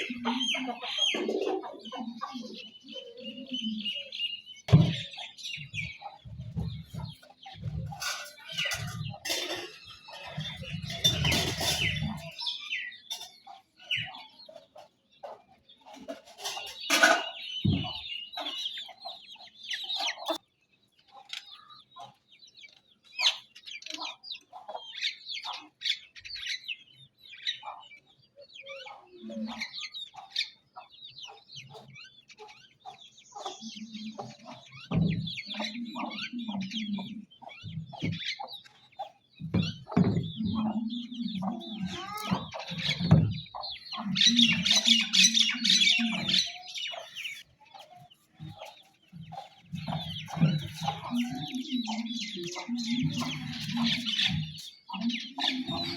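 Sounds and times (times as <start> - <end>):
chicks peeping: 0.0 - 55.9
hens clucking: 0.0 - 55.9.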